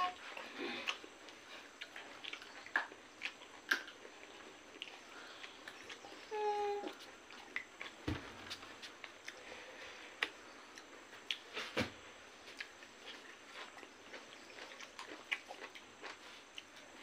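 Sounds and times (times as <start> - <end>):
chewing with mouth clicks: 0.2 - 6.3, 6.9 - 9.5, 10.2 - 11.5, 12.4 - 17.0.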